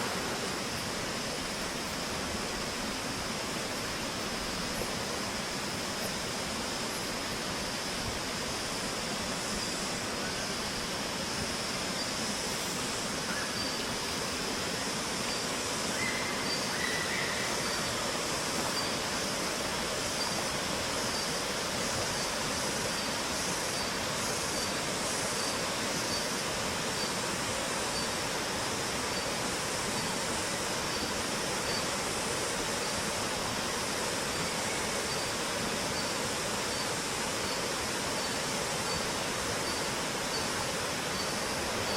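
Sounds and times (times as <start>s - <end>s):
river water rushing: 0.0s - 41.9s.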